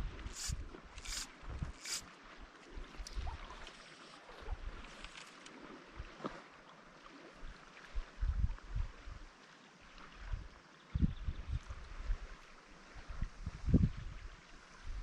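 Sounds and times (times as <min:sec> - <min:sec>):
shallow river running: 0:00.0 - 0:11.0, 0:11.6 - 0:15.0.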